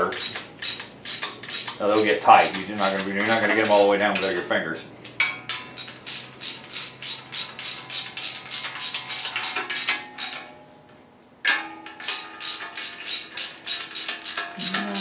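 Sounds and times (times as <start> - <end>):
hand ratchet clicking: 0.0 - 4.4, 5.5 - 10.4, 12.0 - 15.0.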